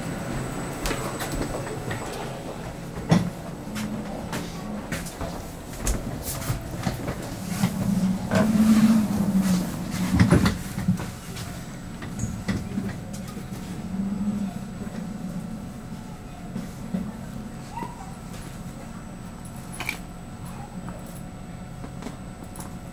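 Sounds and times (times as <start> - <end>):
train carriage hum: 0.0 - 22.9.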